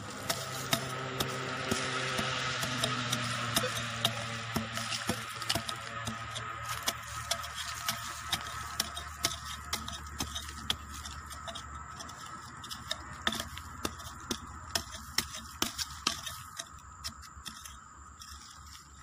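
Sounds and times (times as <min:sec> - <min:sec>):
hand tool scraping soil: 0:00.0 - 0:19.0.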